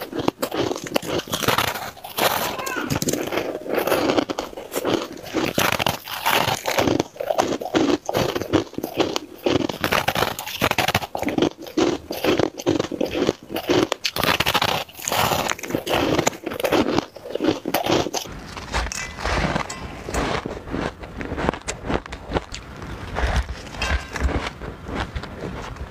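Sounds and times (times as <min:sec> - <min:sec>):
ice being chewed: 0:00.0 - 0:25.9.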